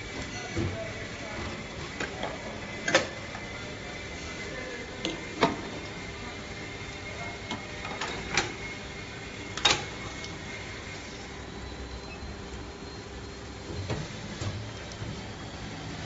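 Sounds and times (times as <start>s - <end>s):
molding machine humming: 0.0s - 16.0s.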